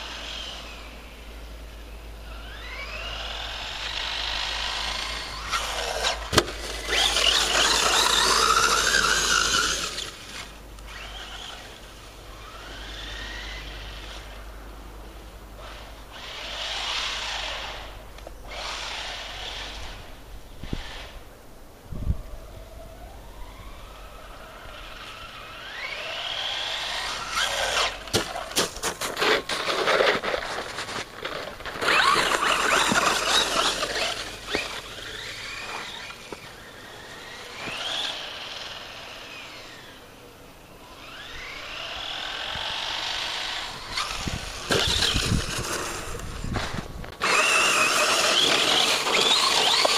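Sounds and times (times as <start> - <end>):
tyres churning snow: 0.0 - 1.1, 2.2 - 21.2, 24.0 - 40.1, 40.7 - 49.9
electric motor whining: 0.0 - 1.3, 2.2 - 14.5, 15.6 - 21.3, 22.8 - 28.6, 31.3 - 40.2, 40.8 - 49.9.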